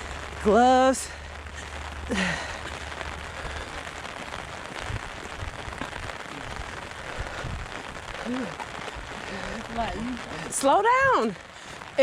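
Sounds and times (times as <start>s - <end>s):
steady rain hiss: 0.0s - 12.0s
dull low thumps: 1.3s - 11.2s.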